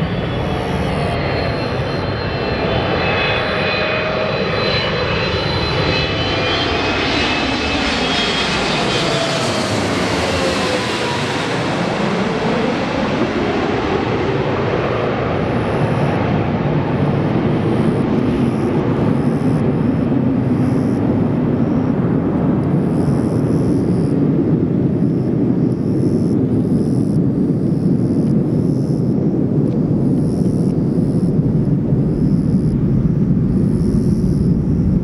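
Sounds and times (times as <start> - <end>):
jet engine rumble: 0.0 - 35.0
jet engines whining overhead: 0.0 - 35.0.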